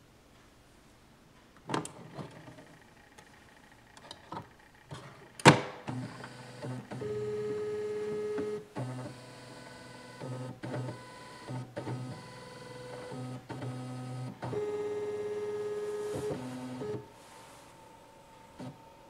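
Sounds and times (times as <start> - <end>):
printer mechanism whirring: 1.6 - 19.0.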